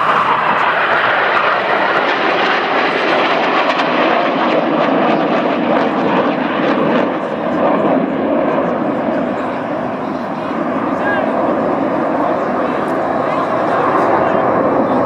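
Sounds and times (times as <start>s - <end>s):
jet fighters roaring past: 0.0s - 15.0s.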